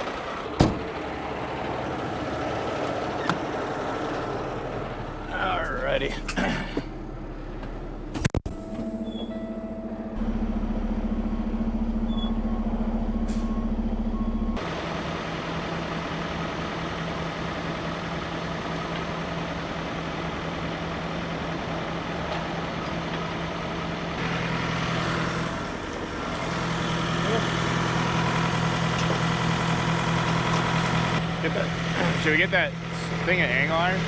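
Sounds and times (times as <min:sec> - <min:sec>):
truck diesel engine idling: 0:00.0 - 0:08.1, 0:10.0 - 0:34.0.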